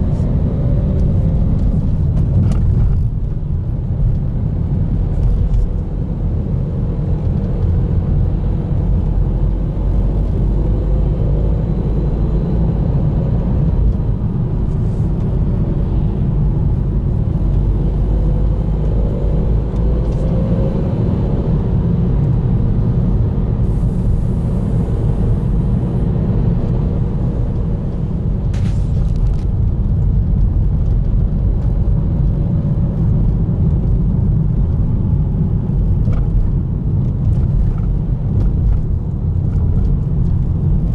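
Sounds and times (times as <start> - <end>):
car driving heard from inside: 0.0 - 40.9.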